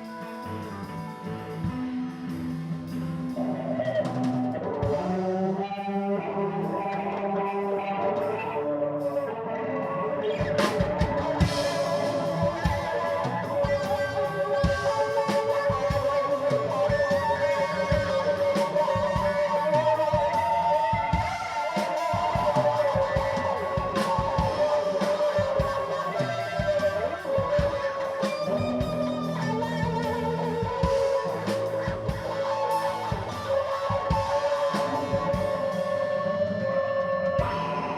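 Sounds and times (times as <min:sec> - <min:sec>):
drums: 0:00.0 - 0:37.9
electric guitar melody: 0:00.0 - 0:37.9.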